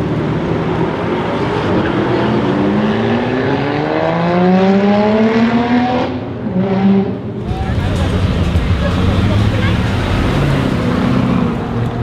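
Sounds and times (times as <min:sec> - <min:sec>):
car engine accelerating hard: 0:00.4 - 0:12.0.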